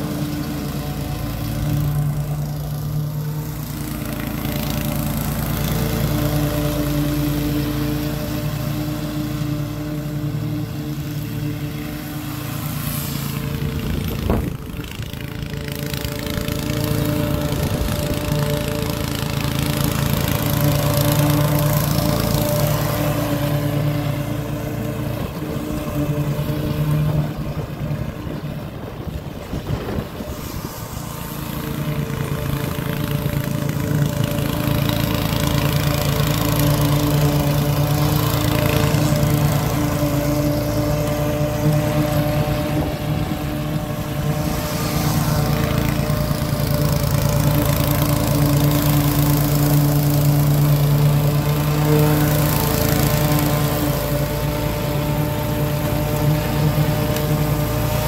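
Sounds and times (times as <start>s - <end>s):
lawn mower engine running: 0.0s - 58.0s.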